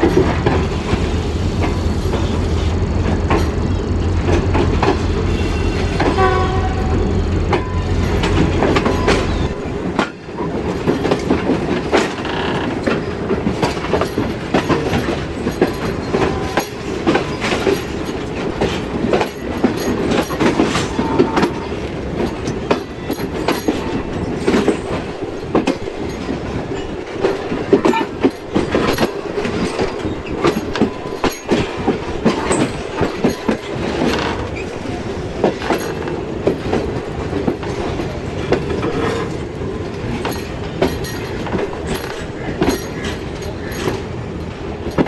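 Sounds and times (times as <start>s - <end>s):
train wheels clattering over rail joints: 0.0s - 45.0s.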